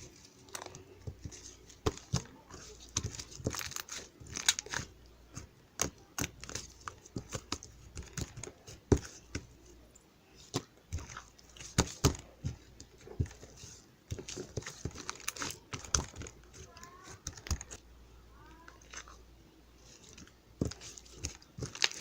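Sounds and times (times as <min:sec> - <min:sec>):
crinkling and crunching clicks: 0:00.0 - 0:09.5, 0:10.4 - 0:17.9, 0:19.8 - 0:22.0.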